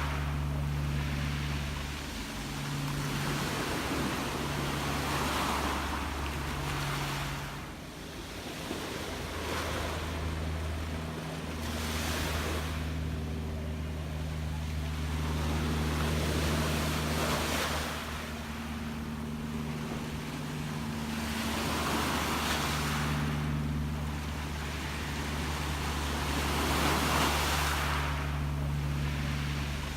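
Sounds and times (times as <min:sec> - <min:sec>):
sea waves washing in: 0:00.0 - 0:29.9
steady low hum: 0:00.0 - 0:29.9.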